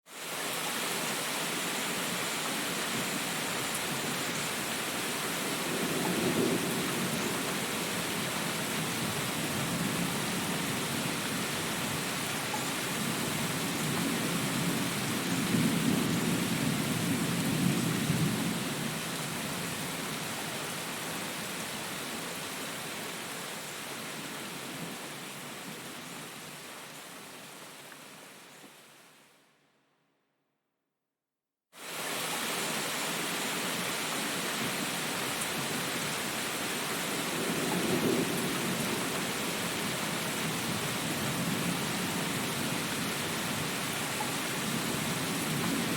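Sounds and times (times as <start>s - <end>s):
steady rain falling: 0.1s - 29.6s, 31.8s - 45.9s.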